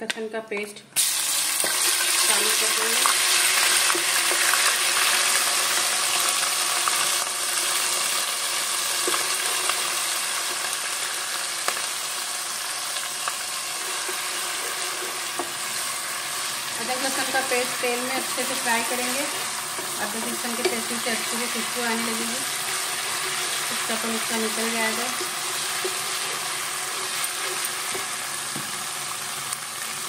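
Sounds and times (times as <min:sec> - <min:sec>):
paste sizzling in hot oil: 0:01.0 - 0:30.0.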